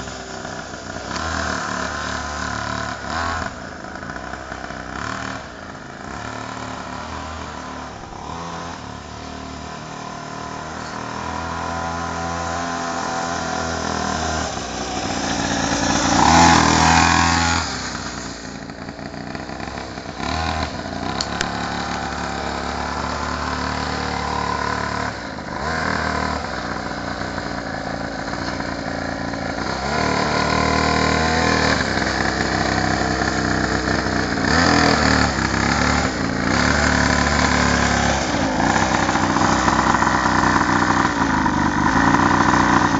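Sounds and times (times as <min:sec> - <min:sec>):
small motorcycle engine revving: 0:00.0 - 0:42.9.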